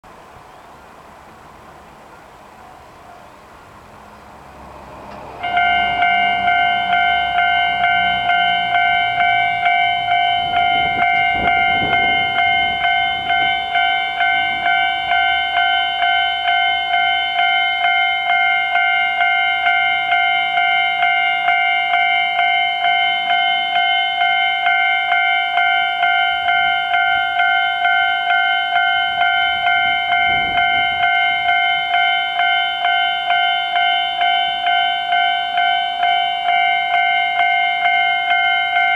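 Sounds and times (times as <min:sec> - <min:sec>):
level crossing warning bell: 0:04.5 - 0:38.9.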